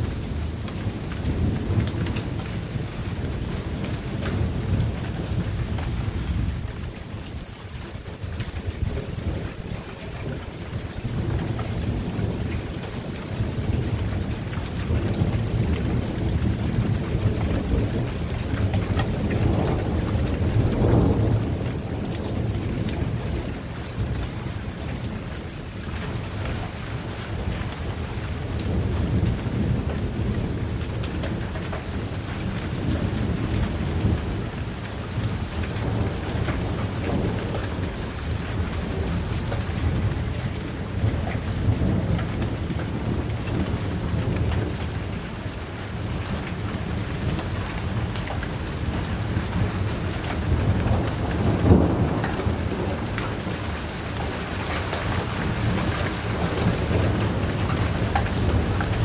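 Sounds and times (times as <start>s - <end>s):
heavy rain: 0.0s - 59.0s
rolling thunder: 0.0s - 59.0s.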